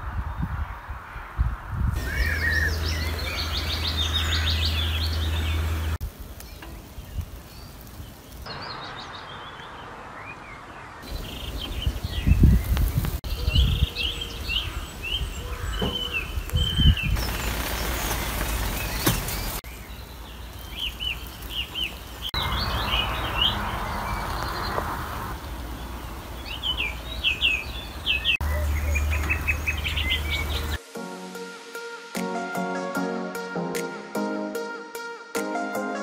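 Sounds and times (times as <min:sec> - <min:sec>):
birds chirping and singing: 0:00.3 - 0:30.8.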